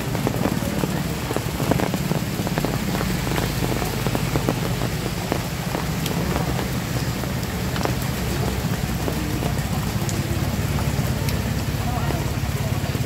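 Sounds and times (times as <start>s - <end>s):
heavy rain hissing: 0.0s - 13.0s
motorbike running through water: 0.0s - 13.0s
raindrops ticking on puddles: 0.0s - 13.0s.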